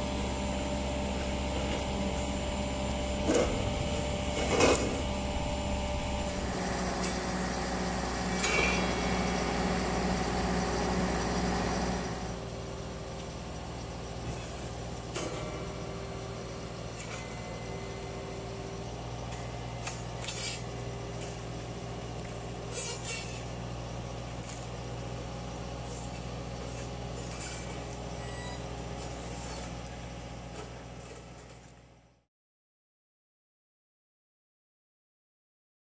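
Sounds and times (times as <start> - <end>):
diesel engine running: 0.0 - 32.2.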